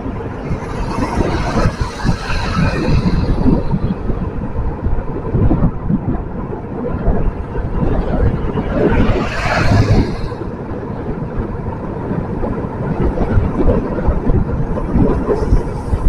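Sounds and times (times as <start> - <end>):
road traffic hum: 0.0 - 16.0
wind buffeting microphone: 0.0 - 16.0.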